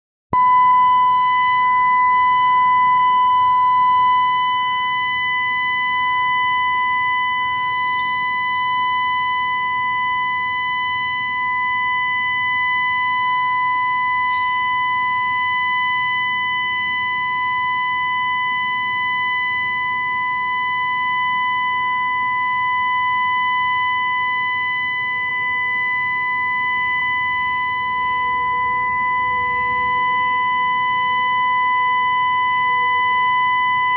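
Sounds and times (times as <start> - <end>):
steady alarm siren: 0.3 - 33.9.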